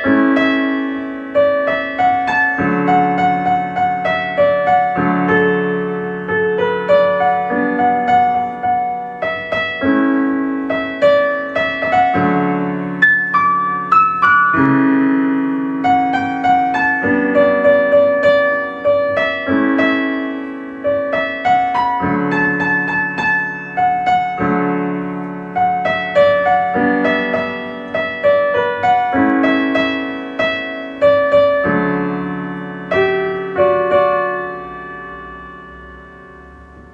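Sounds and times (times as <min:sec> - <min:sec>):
soft slow piano music: 0:00.0 - 0:36.9.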